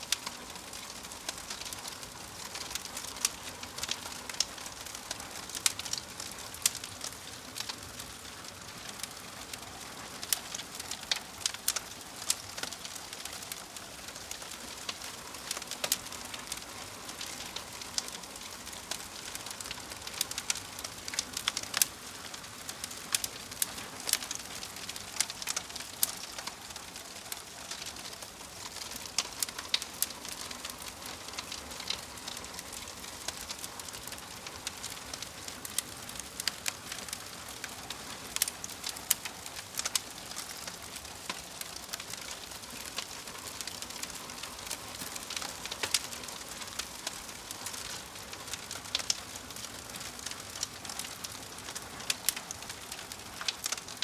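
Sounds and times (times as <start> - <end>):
logs crackling in a fireplace: 0.0 - 54.0.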